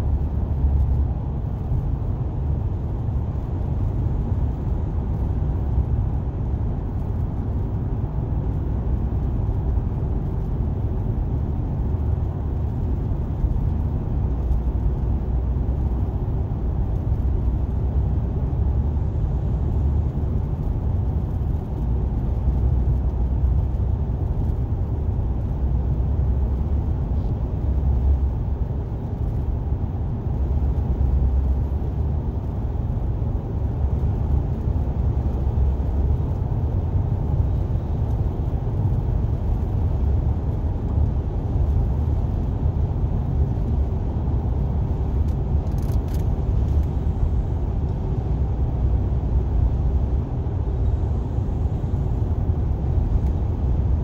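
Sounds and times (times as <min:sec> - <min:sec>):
car engine: 0:00.0 - 0:54.0
road and tyre noise: 0:00.0 - 0:54.0.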